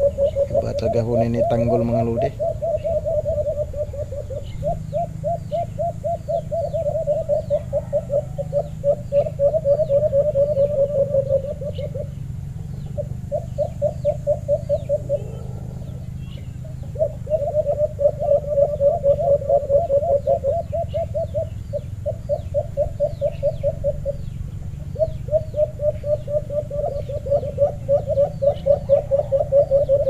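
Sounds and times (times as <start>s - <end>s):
dove cooing rapidly: 0.0s - 30.0s
small birds chirping: 0.0s - 30.0s.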